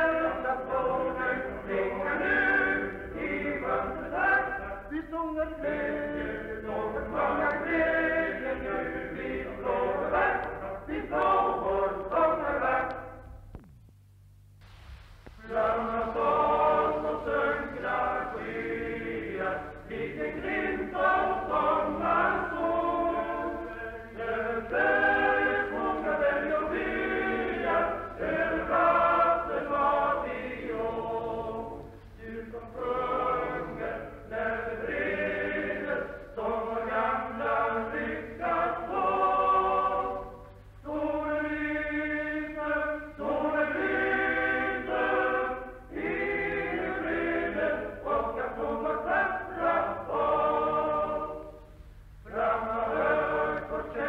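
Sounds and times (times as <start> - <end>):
men's choir singing: 0.0 - 13.2, 15.4 - 51.6, 52.2 - 54.0
low hum: 8.4 - 54.0.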